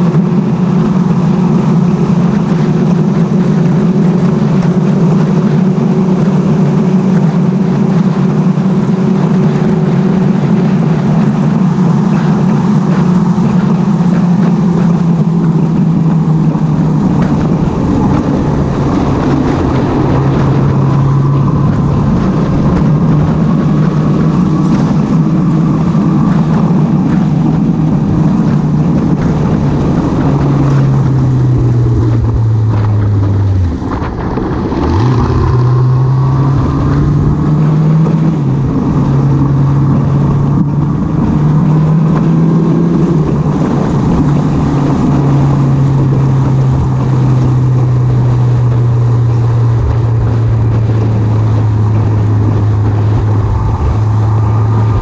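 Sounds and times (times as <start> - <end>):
motorcycle engine running: 0.0 - 55.0
steady rush of noise: 0.0 - 55.0.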